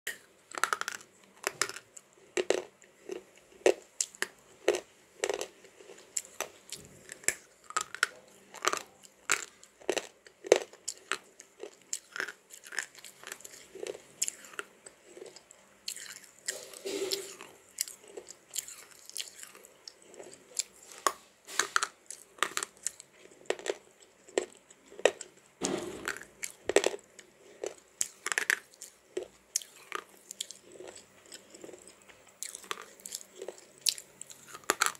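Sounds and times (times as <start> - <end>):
crunching and chewing slate: 0.1 - 34.9.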